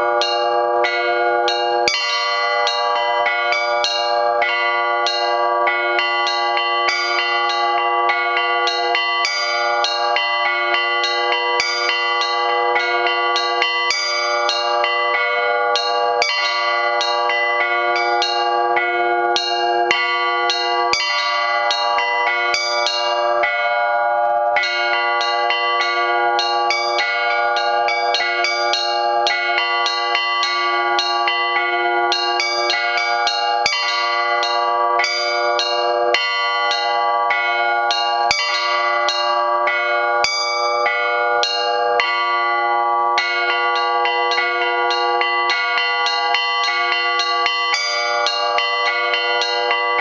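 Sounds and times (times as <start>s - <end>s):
deep bells humming: 0.0s - 50.0s.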